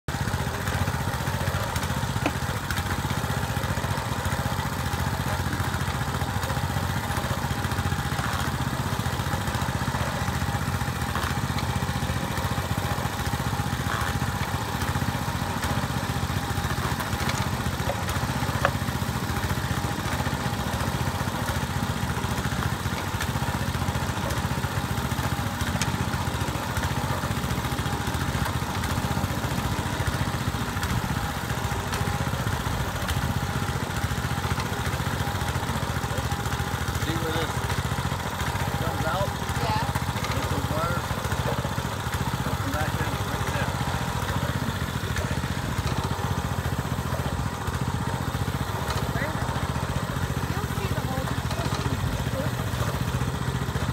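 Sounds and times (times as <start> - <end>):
small engine running: 0.0 - 53.9.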